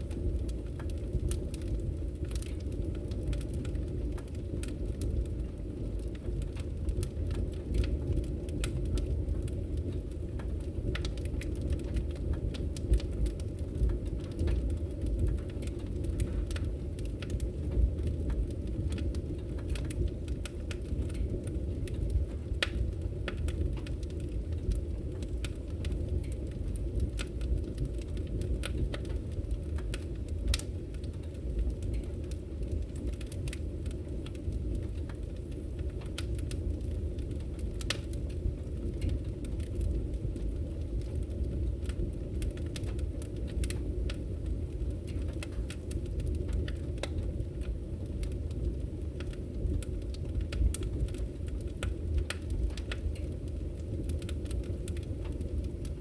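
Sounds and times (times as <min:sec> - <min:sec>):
rush of flames: 0:00.0 - 0:56.0
wood crackling and popping: 0:00.0 - 0:56.0.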